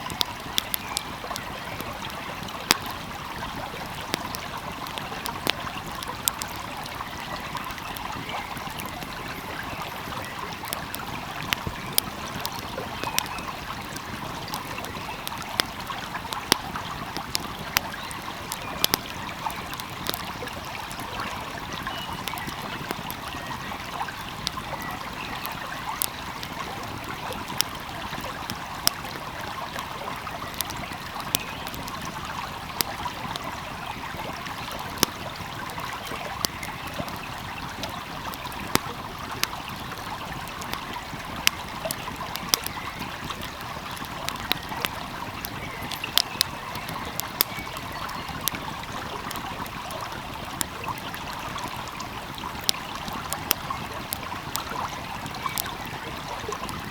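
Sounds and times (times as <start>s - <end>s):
stream flowing: 0.0s - 56.9s
wood fire crackling: 0.0s - 56.9s.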